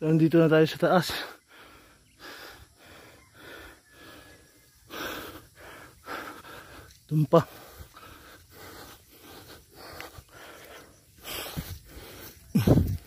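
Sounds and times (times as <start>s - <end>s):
person breathing hard: 1.2s - 13.0s.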